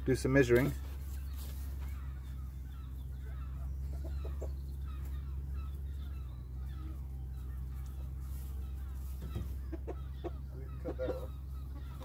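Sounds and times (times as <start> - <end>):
chickens clucking: 0.0 - 12.0
steady low hum: 0.0 - 12.0.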